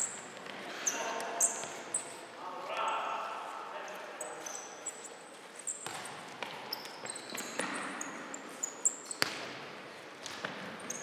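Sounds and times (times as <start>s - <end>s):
shoes squeaking on floor: 0.0s - 11.0s.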